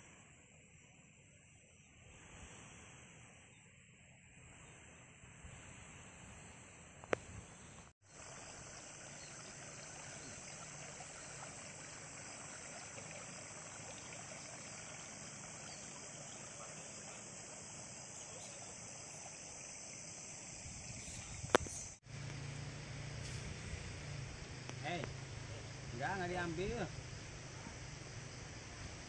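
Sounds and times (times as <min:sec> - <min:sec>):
soft rushing haze: 0:00.0 - 0:29.0
insect chorus buzzing: 0:04.5 - 0:29.0.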